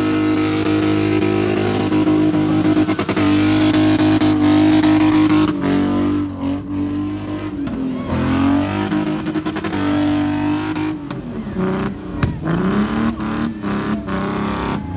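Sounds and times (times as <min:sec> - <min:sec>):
car engine at high revs: 0:00.0 - 0:14.9.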